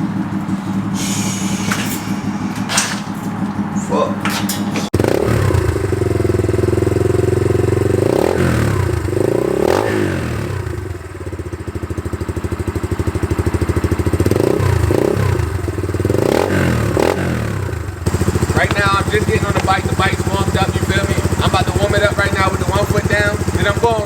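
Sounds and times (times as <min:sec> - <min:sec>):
motorbike engine idling: 0:00.0 - 0:24.0
motorbike engine revving: 0:00.0 - 0:24.0.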